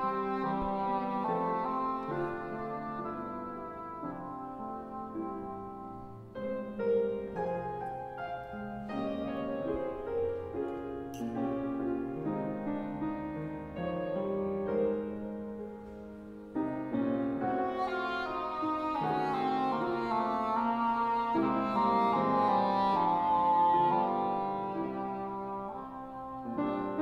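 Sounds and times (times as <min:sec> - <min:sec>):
piano chords: 0:00.0 - 0:27.0.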